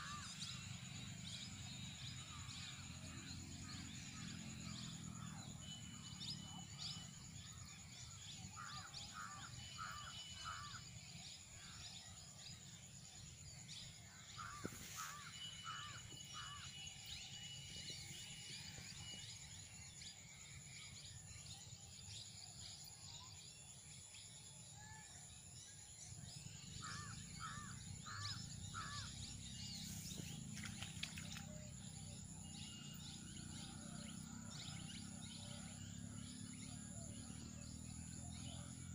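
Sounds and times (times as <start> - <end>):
steady high insect buzz: 0.0 - 24.8, 25.6 - 38.9.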